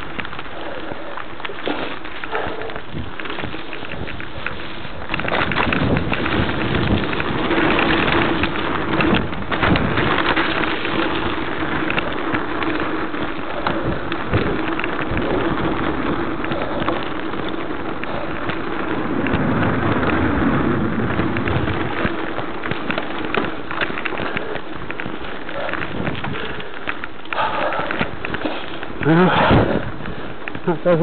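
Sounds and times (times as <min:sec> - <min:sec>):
bike rattling over bumps: 0:00.0 - 0:31.0
tyres clattering on dirt: 0:00.0 - 0:31.0.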